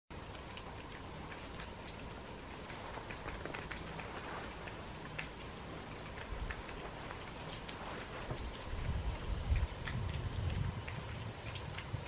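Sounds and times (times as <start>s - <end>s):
low background hiss: 0.1s - 12.0s
melting snow dripping off roof: 0.1s - 12.0s.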